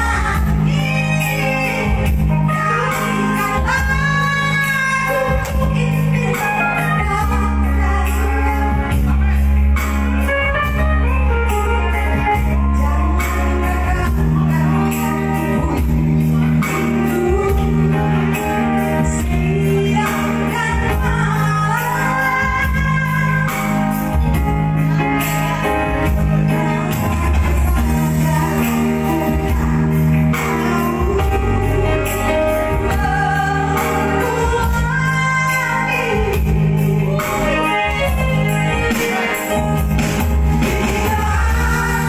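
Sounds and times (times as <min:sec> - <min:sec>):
instrumental accompaniment: 0:00.0 - 0:42.0
woman singing into microphone: 0:00.0 - 0:42.0.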